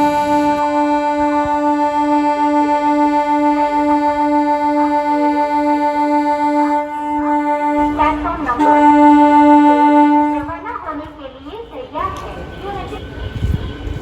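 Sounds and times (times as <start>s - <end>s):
train horn: 0.0s - 14.0s.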